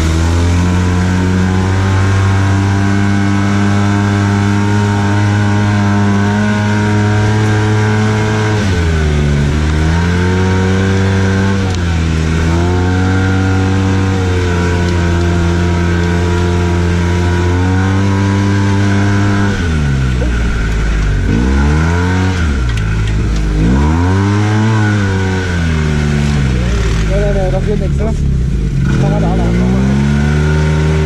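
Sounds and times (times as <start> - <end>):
single-cylinder engine revving: 0.0 - 31.0.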